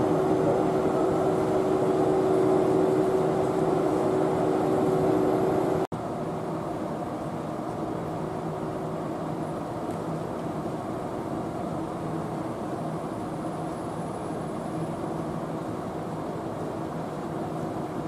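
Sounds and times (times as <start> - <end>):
electric locomotive humming: 0.0 - 18.0.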